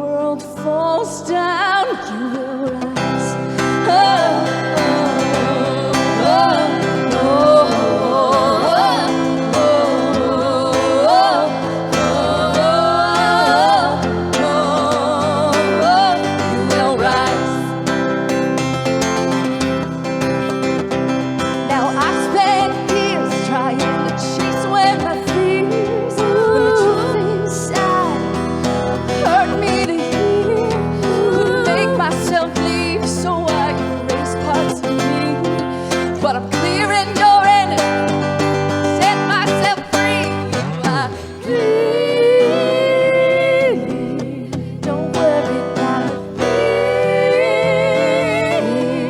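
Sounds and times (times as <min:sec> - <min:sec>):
strummed guitar chords: 0:00.0 - 0:49.0.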